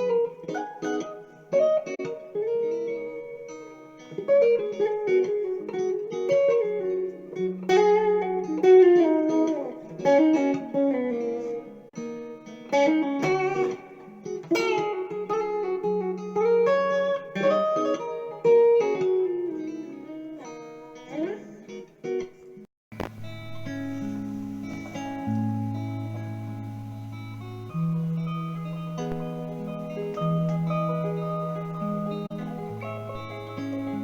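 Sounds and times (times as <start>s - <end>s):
plucked guitar melody: 0.0s - 34.0s.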